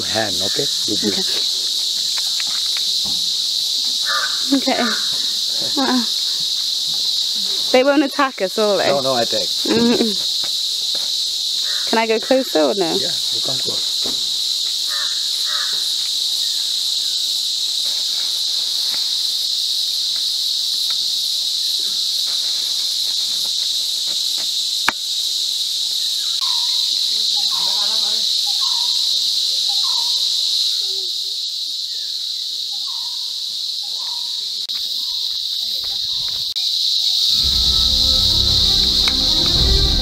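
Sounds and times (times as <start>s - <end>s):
insect chorus drone: 0.0s - 40.0s.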